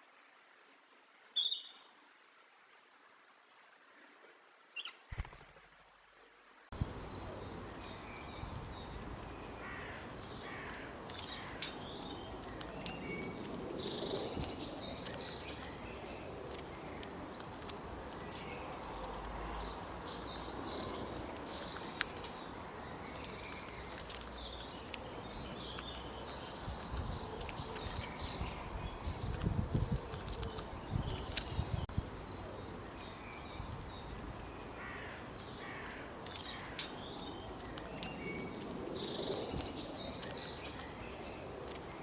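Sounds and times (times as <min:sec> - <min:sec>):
outdoor background hiss: 0:00.0 - 0:42.0
birds chirping: 0:06.7 - 0:42.0.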